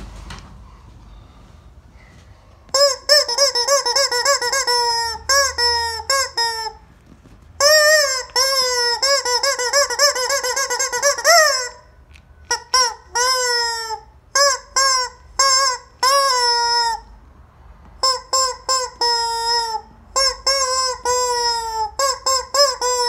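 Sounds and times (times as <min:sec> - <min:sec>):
rubber chicken toy squeaking: 0:02.7 - 0:17.2, 0:18.0 - 0:23.0.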